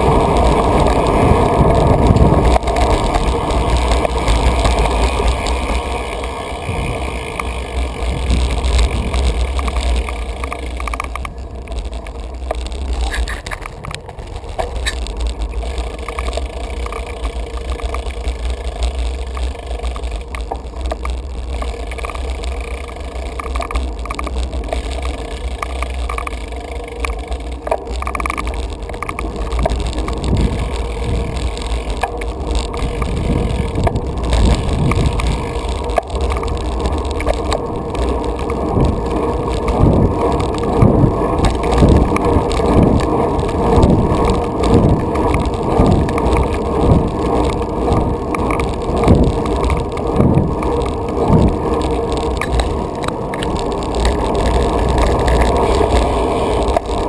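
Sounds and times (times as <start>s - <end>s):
bicycle tyres on pavement: 0.0s - 57.0s
small clicks and rattles: 0.0s - 57.0s
wind rumbling on microphone: 0.0s - 57.0s.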